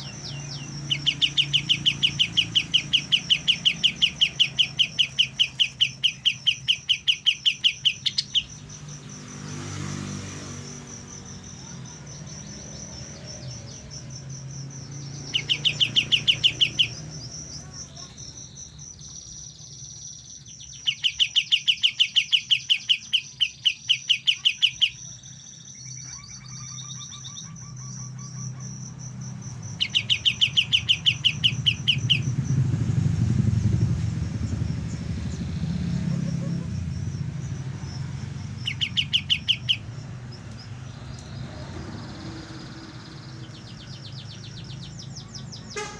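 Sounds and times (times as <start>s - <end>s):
songbird chirping: 0.0s - 45.9s.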